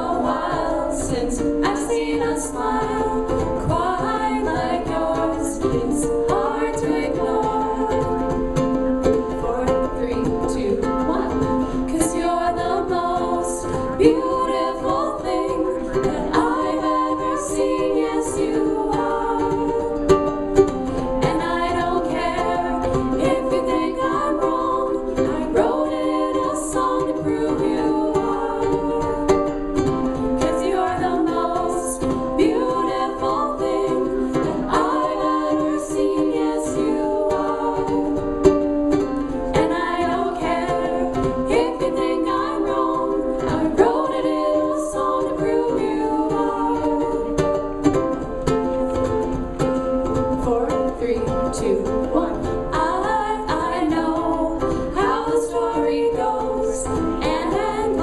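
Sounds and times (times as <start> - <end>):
song with singing: 0.0 - 58.0.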